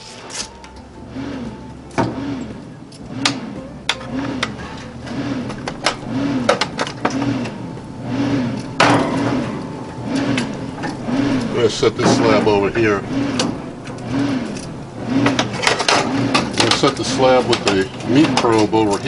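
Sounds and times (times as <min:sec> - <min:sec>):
pellet smoker humming: 0:00.0 - 0:19.0.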